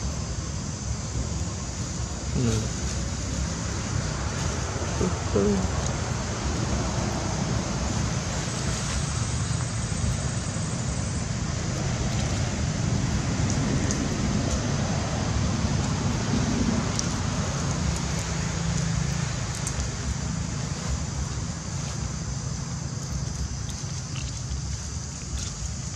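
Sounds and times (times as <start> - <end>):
continuous low rumble: 0.0 - 25.9.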